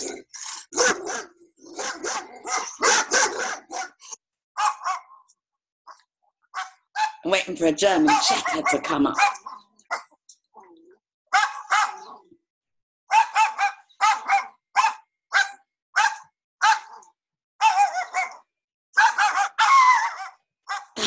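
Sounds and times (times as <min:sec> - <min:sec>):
dog barking: 0:00.7 - 0:05.3, 0:05.9 - 0:07.2, 0:08.0 - 0:10.2, 0:11.3 - 0:12.3, 0:13.1 - 0:21.0.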